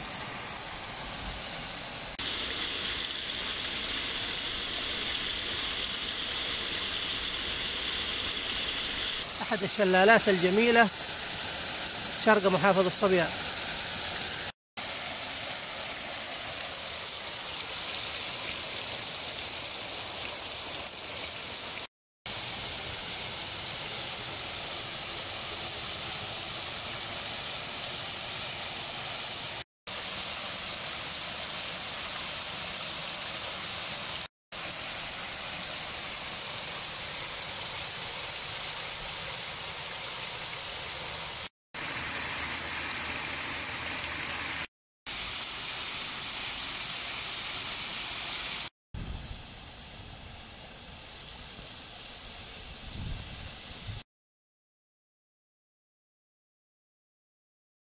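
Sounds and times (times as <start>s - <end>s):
water pouring over rocks: 0.0s - 48.7s.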